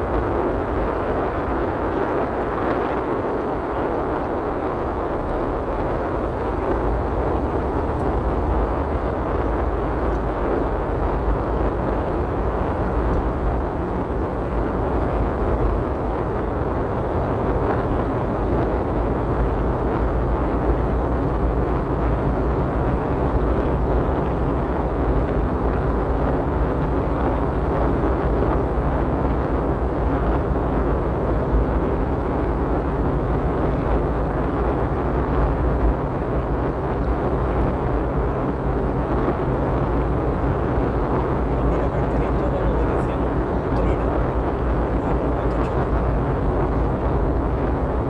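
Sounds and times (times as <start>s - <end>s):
car driving heard from cabin: 0.0s - 48.0s.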